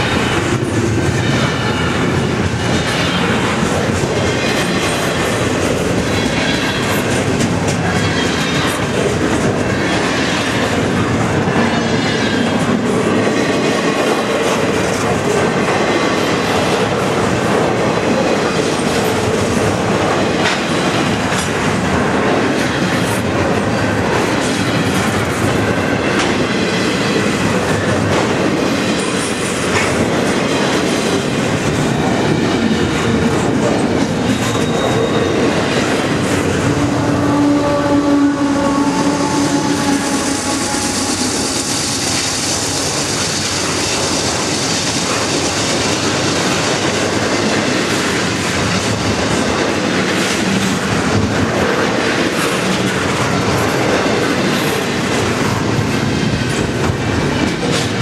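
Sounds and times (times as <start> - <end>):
rail cars rumbling past: 0.0 - 58.0.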